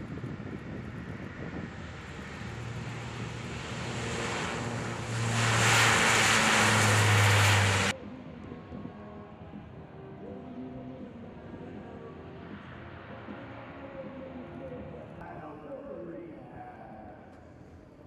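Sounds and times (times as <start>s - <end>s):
propeller plane drone: 0.0s - 8.7s, 9.3s - 15.2s.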